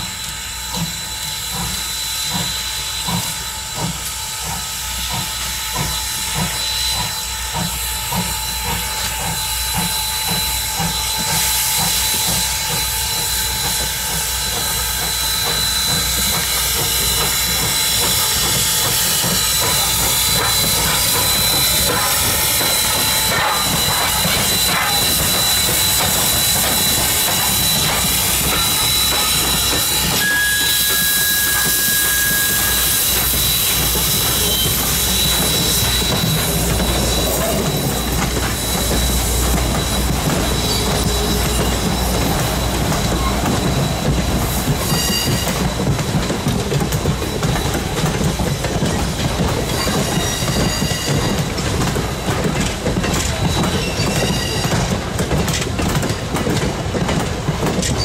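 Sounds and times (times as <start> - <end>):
rolling train: 0.0 - 58.0
steam hiss: 0.0 - 58.0
steam locomotive exhaust chuffs: 0.0 - 58.0.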